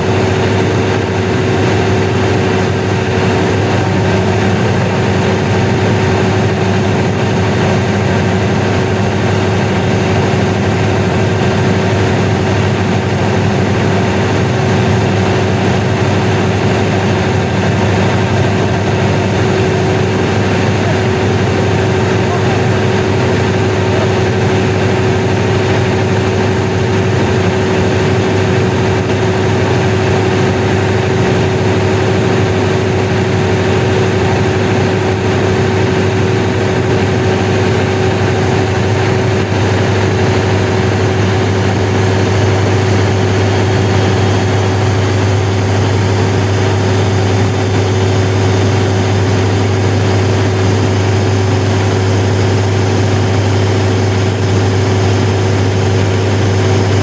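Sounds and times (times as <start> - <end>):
diesel generator droning: 0.0 - 57.0.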